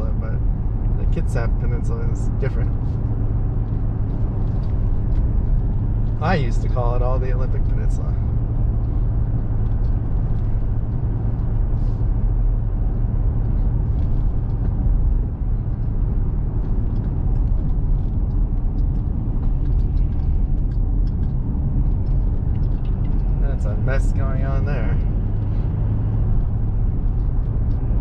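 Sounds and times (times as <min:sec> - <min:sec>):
truck engine and road noise: 0:00.0 - 0:28.0.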